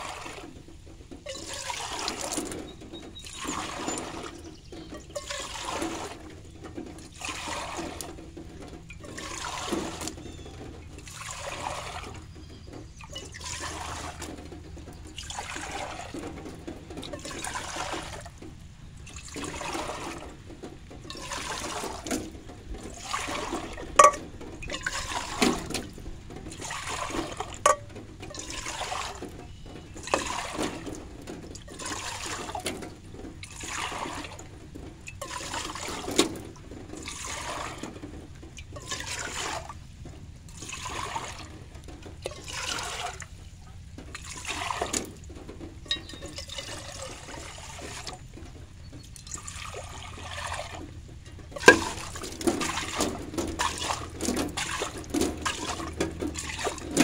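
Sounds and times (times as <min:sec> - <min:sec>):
water pouring between saucepans: 0:00.0 - 0:57.0.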